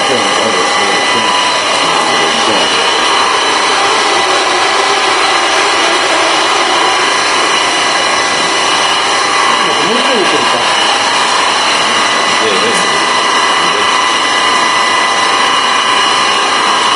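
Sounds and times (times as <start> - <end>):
food slicer machine whirring: 0.0 - 16.9.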